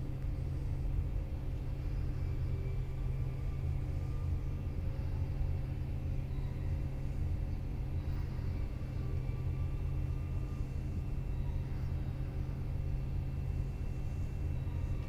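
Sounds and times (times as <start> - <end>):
faint even hum: 0.0 - 15.0
steady low rumble: 0.0 - 15.0.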